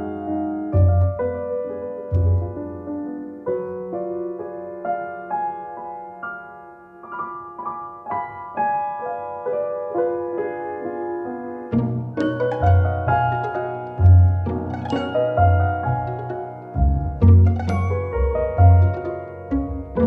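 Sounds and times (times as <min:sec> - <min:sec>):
soft piano melody: 0:00.0 - 0:20.0.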